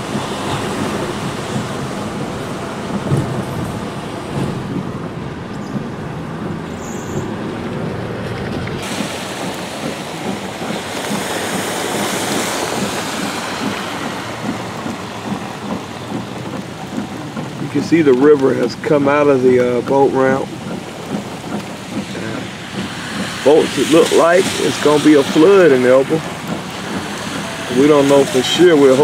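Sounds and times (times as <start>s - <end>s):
car driving on wet road: 0.0s - 29.0s
heavy rain hissing: 0.0s - 29.0s.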